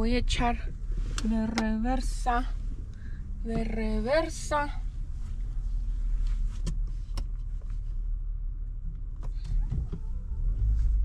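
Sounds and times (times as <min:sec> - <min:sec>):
car engine rumble inside cabin: 0:00.0 - 0:11.0.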